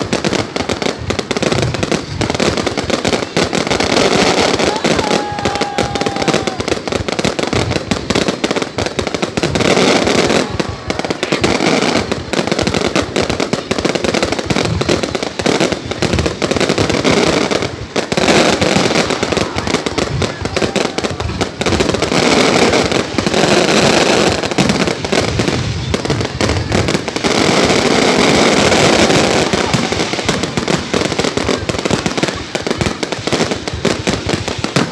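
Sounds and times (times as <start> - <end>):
fireworks bangs and crackling: 0.0 - 34.9.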